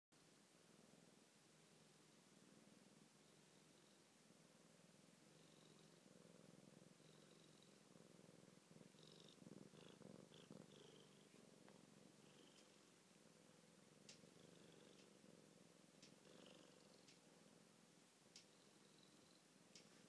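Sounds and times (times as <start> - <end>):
cat purring: 0.2 - 20.0.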